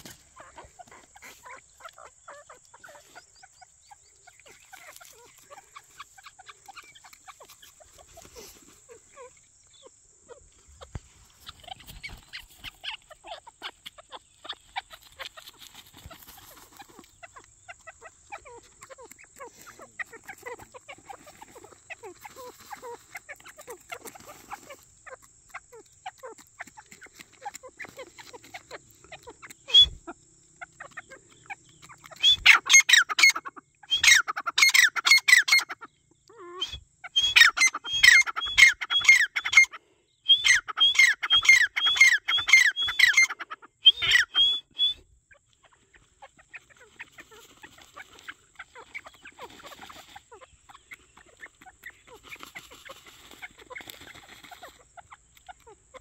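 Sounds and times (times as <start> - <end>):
partridges calling rapidly: 0.0 - 56.0.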